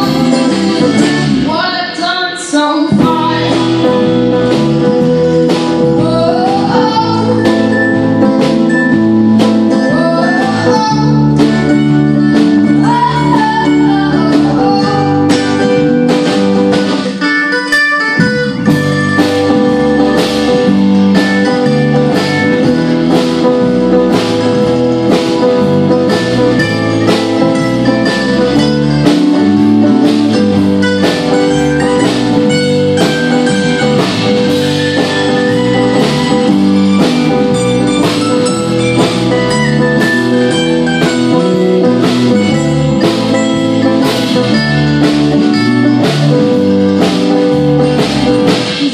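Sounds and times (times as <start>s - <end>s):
acoustic guitar strumming: 0.0s - 48.9s
bass: 0.0s - 48.9s
drums: 0.0s - 48.9s
mandolin: 0.0s - 48.9s.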